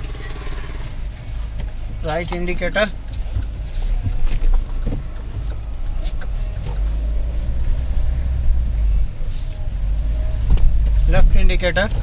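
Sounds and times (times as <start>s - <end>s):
minivan rumble from inside cabin: 0.0s - 12.0s.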